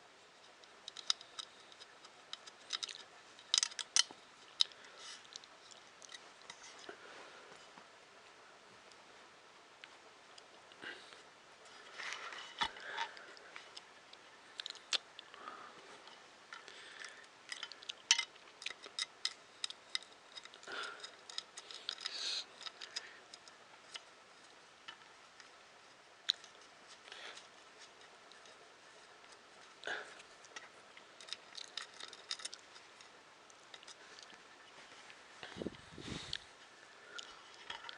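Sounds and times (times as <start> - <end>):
small parts clicking and rattling: 0.0 - 7.0, 11.7 - 37.9
soft rustling: 0.0 - 37.9.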